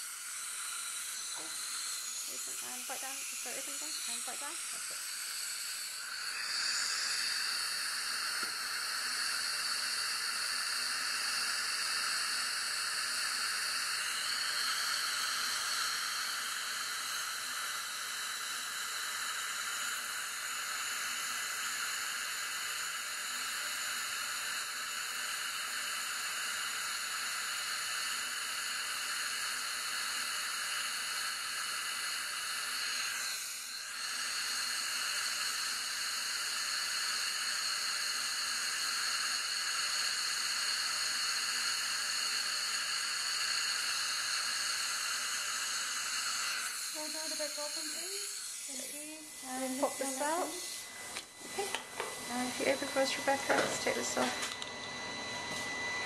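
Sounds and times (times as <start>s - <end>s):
saliva ejector hissing: 0.0s - 54.6s.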